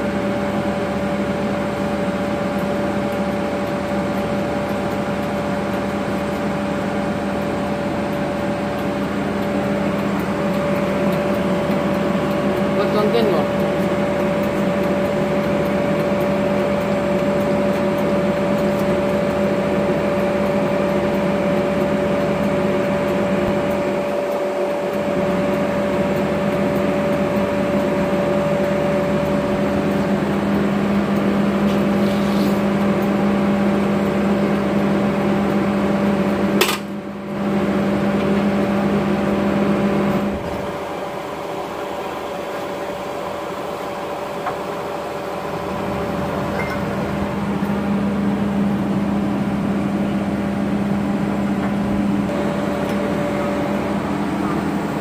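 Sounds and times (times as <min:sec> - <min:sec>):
machine hum with whining tone: 0:00.0 - 0:55.0.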